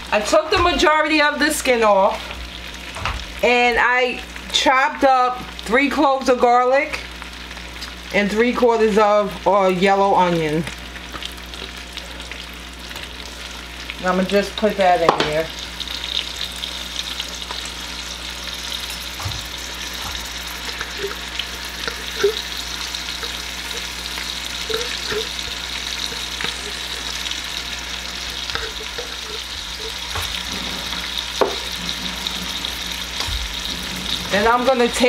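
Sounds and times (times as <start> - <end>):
butter and oil sizzling: 0.0 - 35.0.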